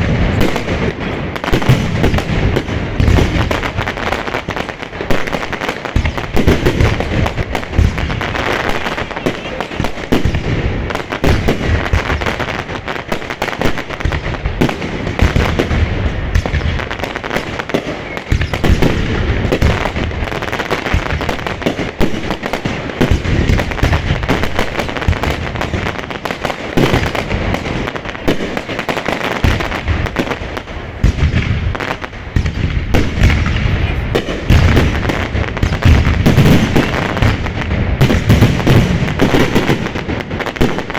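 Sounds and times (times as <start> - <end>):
fireworks bangs and pops: 0.0 - 40.9.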